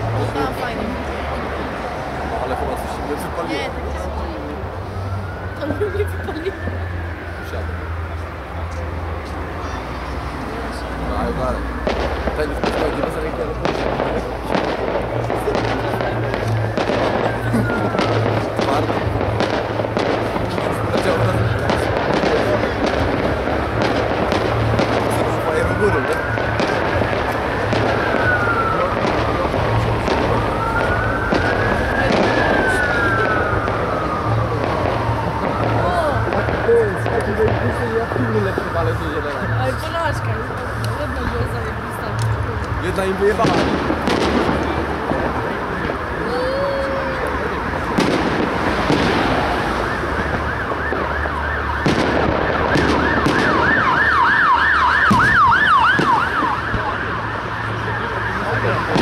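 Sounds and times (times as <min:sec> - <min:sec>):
fireworks crackling and banging: 0:00.0 - 0:59.0
wailing siren: 0:00.0 - 0:59.0.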